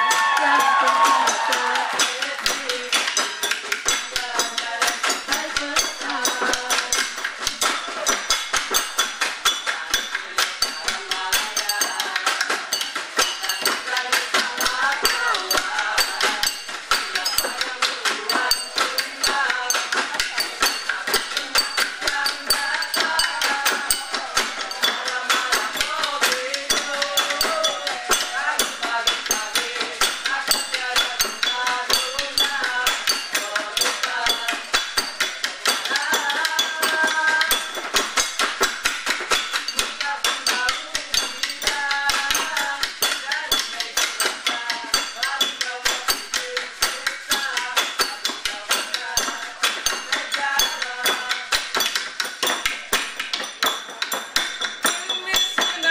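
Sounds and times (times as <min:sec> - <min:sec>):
percussion ensemble drumming: 0:00.0 - 0:55.9
voices singing a melody: 0:00.0 - 0:55.9.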